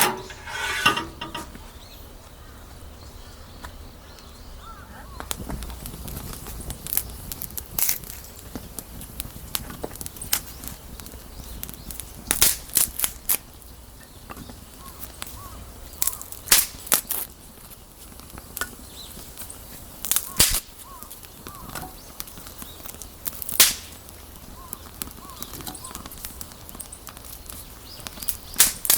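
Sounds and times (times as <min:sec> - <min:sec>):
campfire wood crackling: 0:05.1 - 0:28.9.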